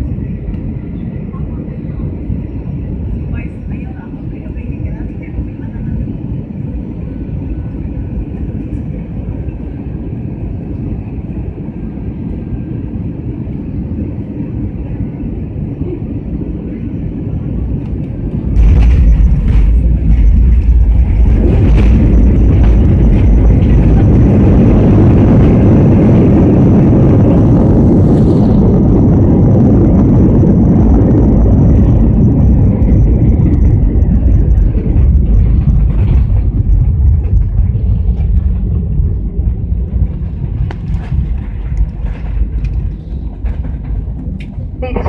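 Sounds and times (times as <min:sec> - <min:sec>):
airliner engines and wheels rumbling: 0:00.0 - 0:45.0.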